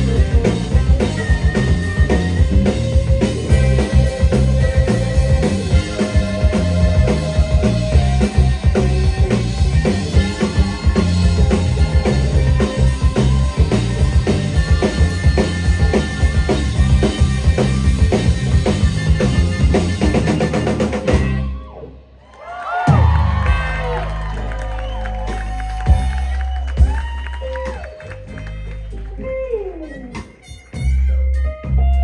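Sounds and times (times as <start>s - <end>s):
drum kit beat: 0.0s - 21.5s, 22.9s - 32.0s
live band playing: 0.0s - 22.2s, 22.8s - 32.0s.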